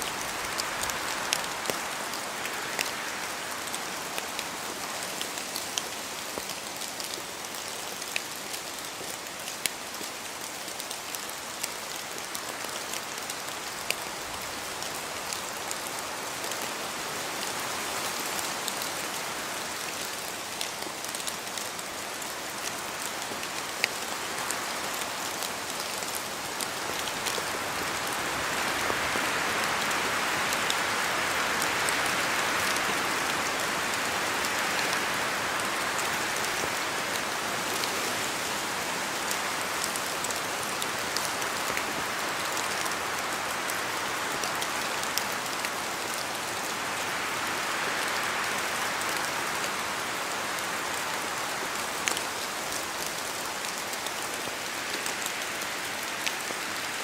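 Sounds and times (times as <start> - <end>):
rain falling through trees: 0.0 - 57.0.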